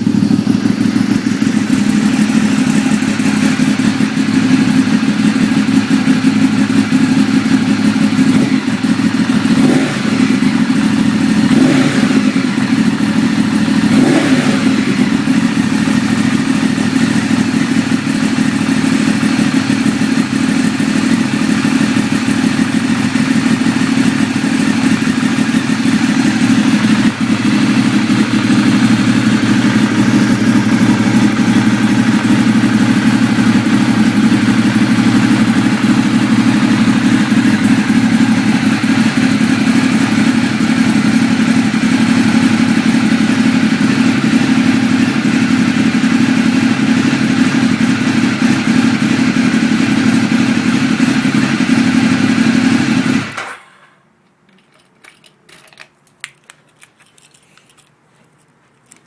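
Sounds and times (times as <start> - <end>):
motorcycle engine idling: 0.0 - 53.4.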